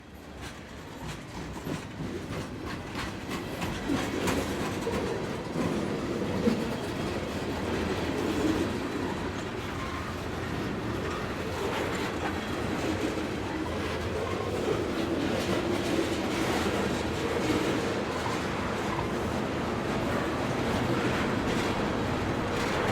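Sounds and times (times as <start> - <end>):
railcars rumbling: 0.0 - 22.9
wheels clacking over rail joints: 0.2 - 22.9.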